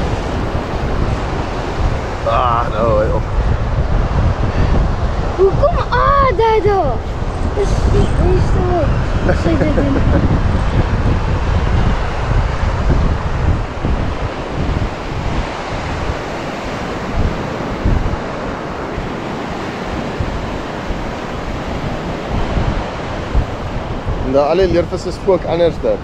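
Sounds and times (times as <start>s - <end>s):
surf washing on beach: 0.0s - 26.0s
wind buffeting microphone: 0.0s - 26.0s.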